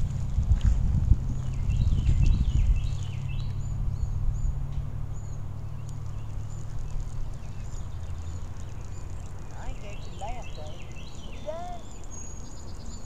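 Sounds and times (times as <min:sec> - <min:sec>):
low rumble: 0:00.0 - 0:11.3
songbirds chirping: 0:01.2 - 0:13.0.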